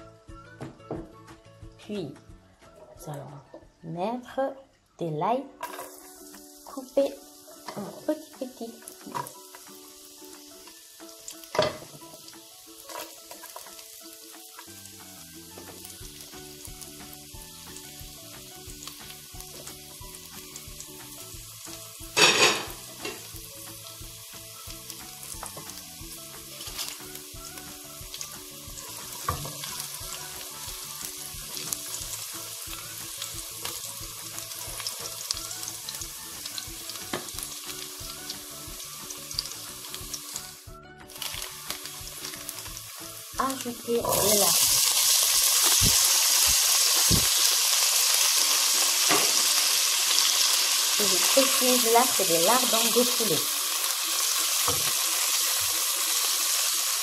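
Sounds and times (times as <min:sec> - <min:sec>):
quiet background music: 0:00.0 - 0:57.0
garlic sizzling in oil: 0:05.6 - 0:57.0.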